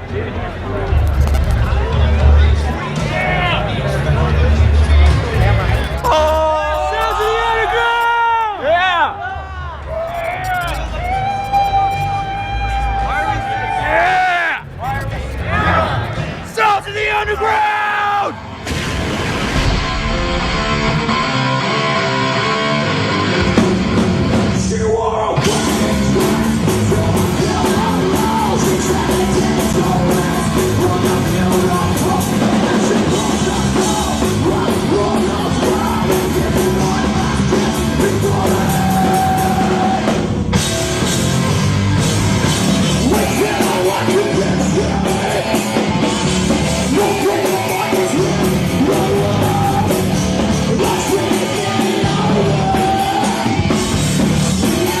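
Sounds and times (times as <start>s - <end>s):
shouted and screamed vocals: 0.0s - 18.5s, 24.5s - 40.6s, 42.8s - 55.0s
heavy metal band playing: 0.0s - 55.0s.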